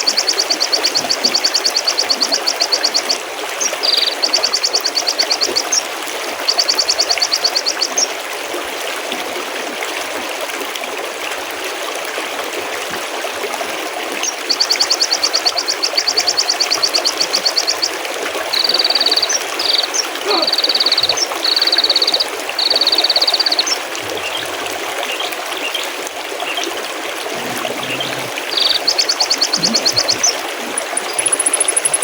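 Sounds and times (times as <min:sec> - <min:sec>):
stream babbling over rocks: 0:00.0 - 0:32.0.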